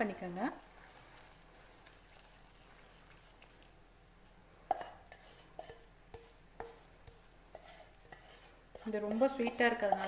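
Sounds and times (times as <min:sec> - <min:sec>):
syrup bubbling in a pan: 0:00.0 - 0:10.0.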